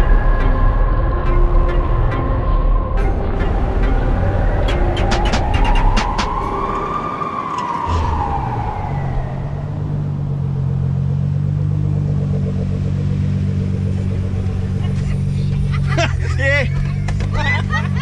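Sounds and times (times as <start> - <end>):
car engine revving: 0.0 - 6.9, 7.8 - 18.0.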